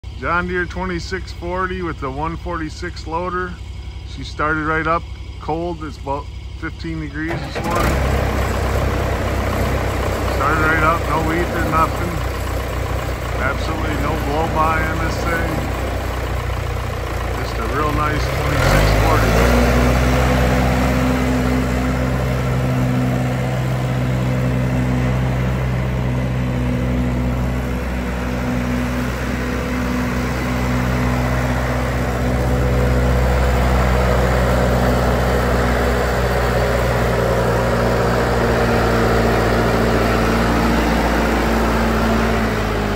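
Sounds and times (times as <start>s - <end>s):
tractor diesel engine droning: 0.0s - 42.9s.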